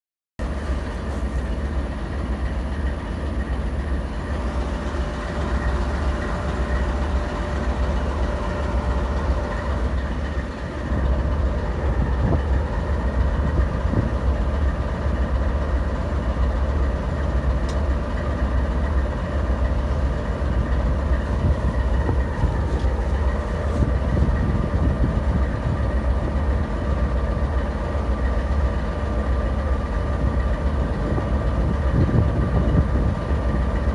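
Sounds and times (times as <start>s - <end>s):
locomotive engine idling: 0.4s - 33.9s.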